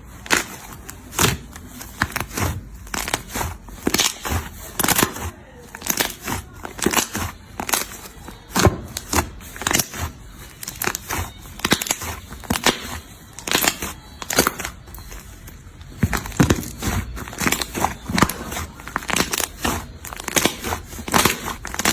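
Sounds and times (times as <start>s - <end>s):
slime popping and crackling: 0.0s - 21.9s.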